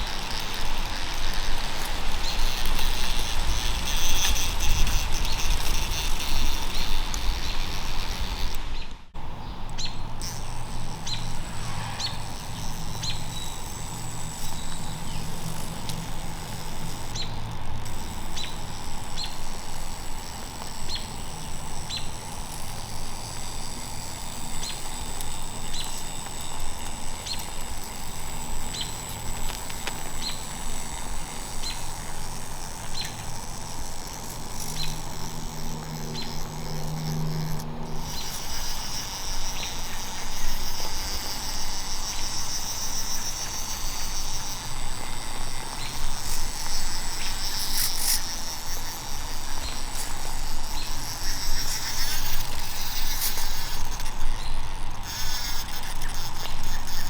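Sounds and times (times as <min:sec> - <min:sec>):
small bird chirping: 0:00.0 - 0:19.8, 0:20.7 - 0:23.8, 0:24.4 - 0:57.0.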